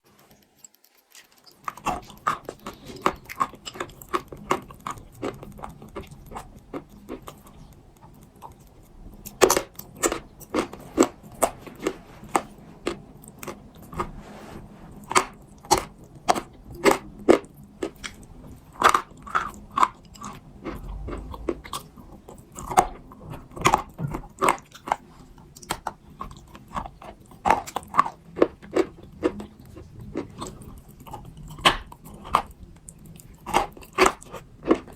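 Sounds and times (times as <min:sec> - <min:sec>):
clay being chewed with crunches: 0:00.0 - 0:34.9.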